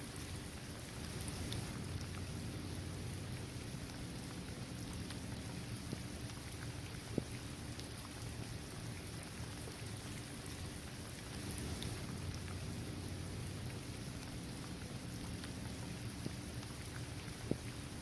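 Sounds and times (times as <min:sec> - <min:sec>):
rain falling on pavement: 0:00.0 - 0:18.0
raindrops ticking: 0:00.1 - 0:18.0.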